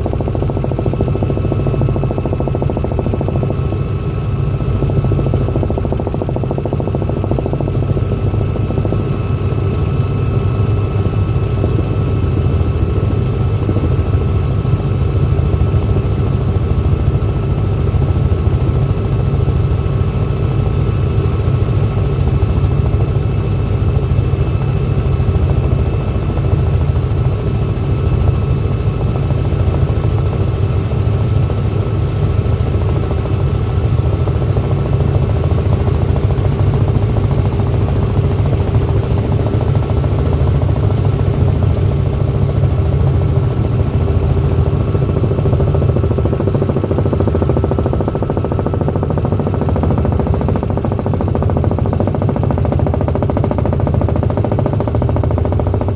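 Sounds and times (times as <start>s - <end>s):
constant whine: 0.0s - 55.9s
helicopter rotor and engine drone: 0.0s - 55.9s.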